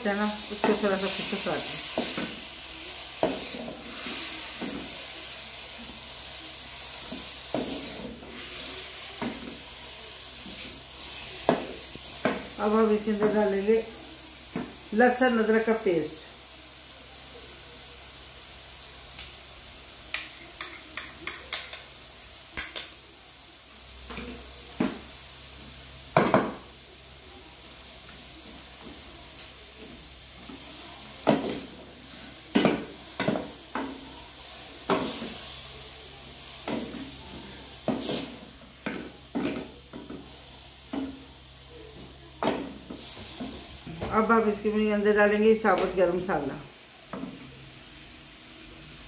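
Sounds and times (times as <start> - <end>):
meat frying sizzle: 0.0 - 49.0.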